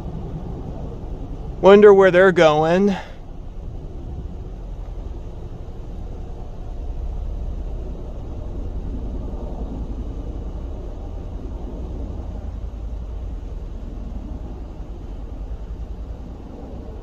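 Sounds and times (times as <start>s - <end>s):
helicopter rotor rumble: 0.0s - 17.0s.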